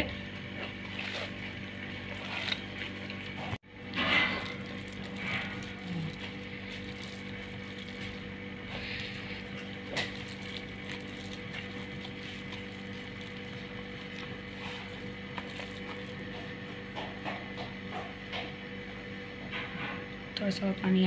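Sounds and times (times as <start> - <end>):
wet squelching of kneaded batter: 0.0 - 17.3
steady low hum: 0.0 - 21.0.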